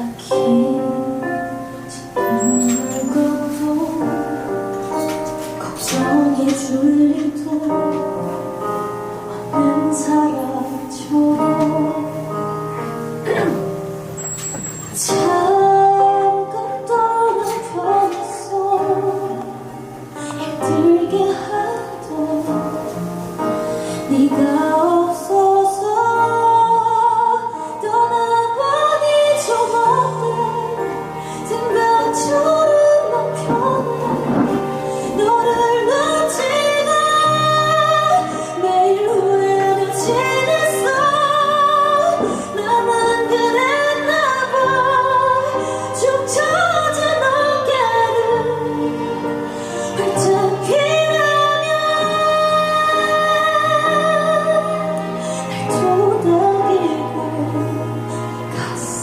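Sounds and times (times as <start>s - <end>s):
woman singing with vibrato: 0.0s - 13.8s, 14.6s - 59.0s.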